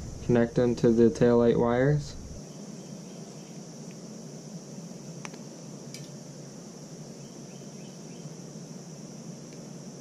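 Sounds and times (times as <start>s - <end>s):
high-pitched insect buzz: 0.0s - 10.0s.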